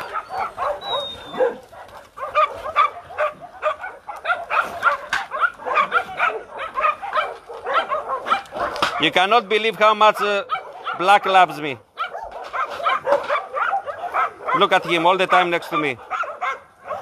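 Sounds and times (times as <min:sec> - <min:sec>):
dogs barking and yipping: 0:00.0 - 0:17.0.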